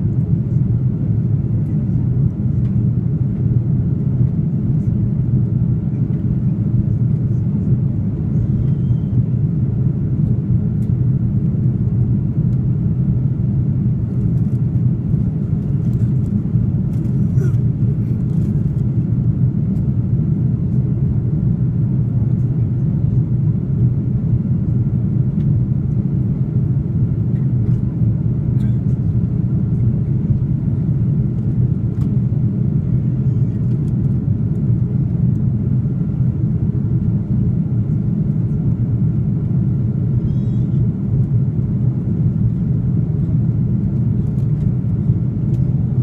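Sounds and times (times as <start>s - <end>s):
airliner cabin engine rumble: 0.0s - 46.0s.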